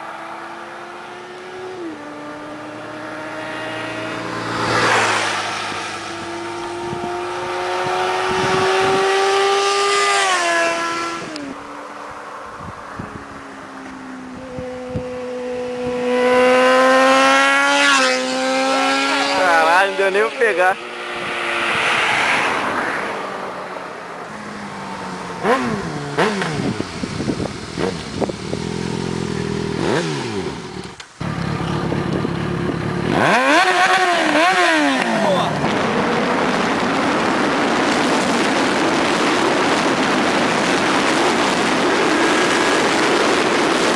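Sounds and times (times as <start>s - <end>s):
motorcycle engine passing at speed: 0.0s - 43.9s.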